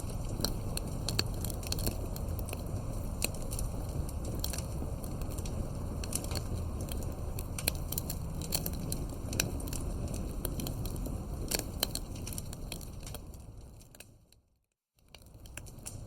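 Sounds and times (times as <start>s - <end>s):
steady low rumble: 0.0s - 14.3s
wood fire crackling and popping: 0.0s - 14.4s, 15.0s - 16.0s.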